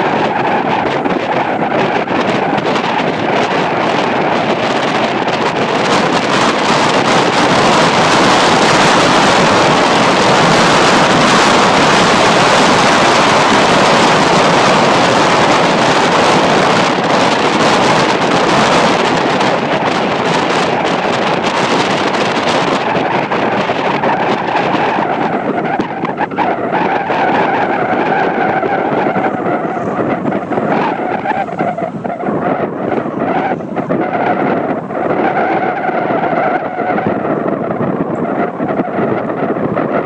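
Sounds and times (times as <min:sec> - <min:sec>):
rolling road noise: 0:00.0 - 0:40.0
wind buffeting microphone: 0:00.0 - 0:40.0.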